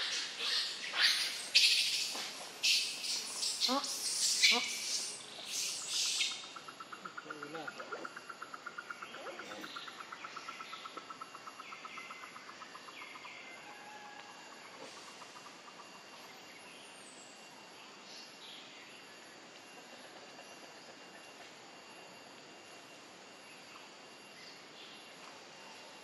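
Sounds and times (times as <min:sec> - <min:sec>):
high insect whine: 0:00.0 - 0:26.0.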